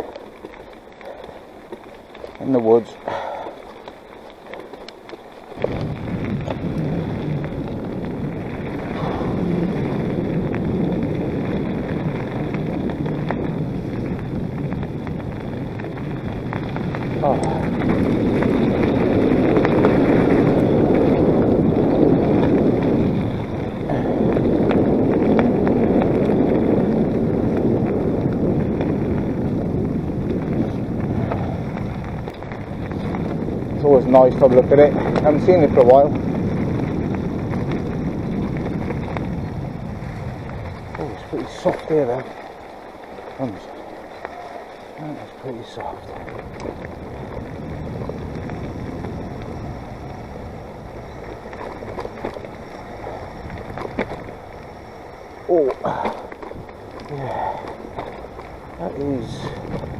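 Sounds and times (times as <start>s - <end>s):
bike clicks and rattles: 0.0s - 59.9s
bike tyre noise: 0.0s - 59.9s
wind buffeting microphone: 0.0s - 59.9s.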